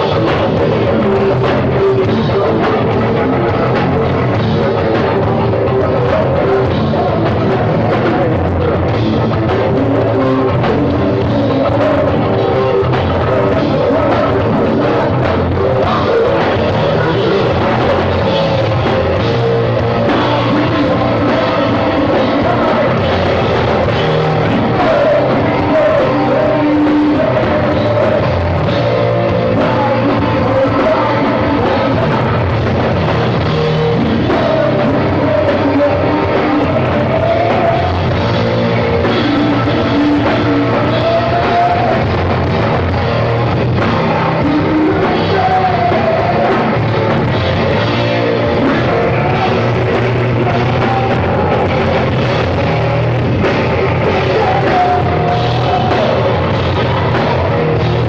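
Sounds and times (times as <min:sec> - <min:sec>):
live rock band with singer: 0:00.0 - 0:58.0.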